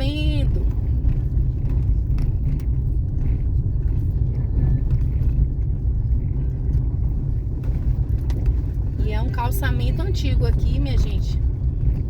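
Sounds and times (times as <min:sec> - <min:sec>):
car driving over cobblestones: 0:00.0 - 0:12.0
faint light rattles: 0:00.0 - 0:12.0.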